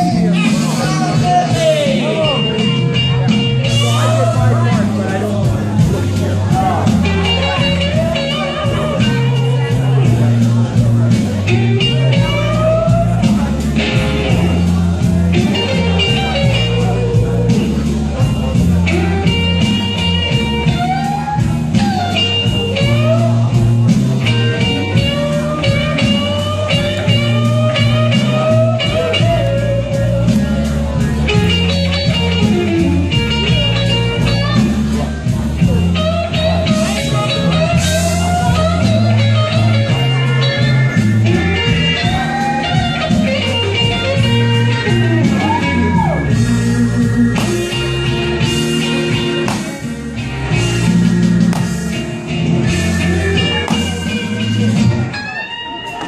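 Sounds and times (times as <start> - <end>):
bass and drums: 0.0 - 55.4
blues guitar solo: 0.0 - 56.0.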